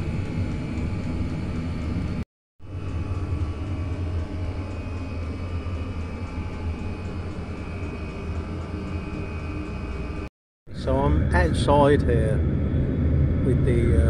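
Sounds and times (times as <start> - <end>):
diesel heater combustion drone: 0.0 - 14.0.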